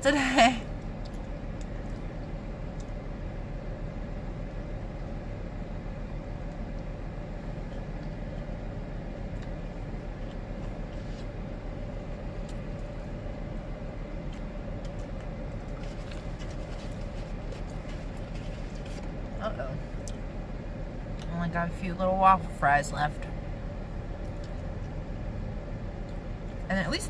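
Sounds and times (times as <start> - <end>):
faint constant hum: 0.0 - 27.0
low background rumble: 0.0 - 27.0.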